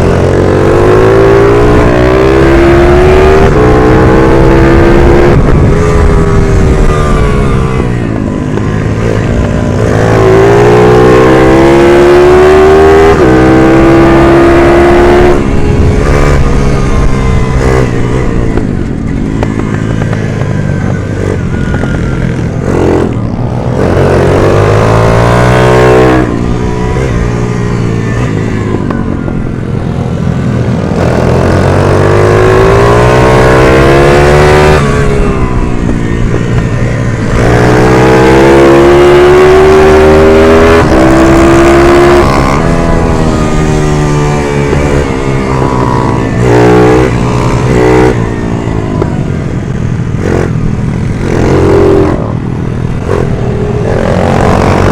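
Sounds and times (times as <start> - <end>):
minibike engine revving: 0.0 - 54.9.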